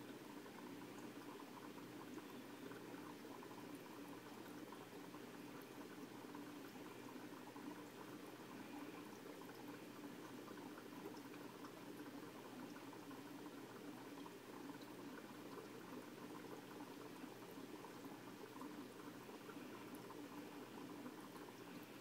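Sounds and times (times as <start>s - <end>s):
aquarium water bubbling: 0.0s - 22.0s.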